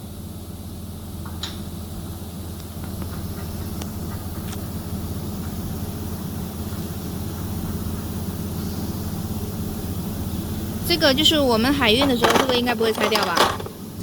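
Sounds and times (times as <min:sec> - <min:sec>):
low machinery hum with hiss: 0:00.0 - 0:11.7.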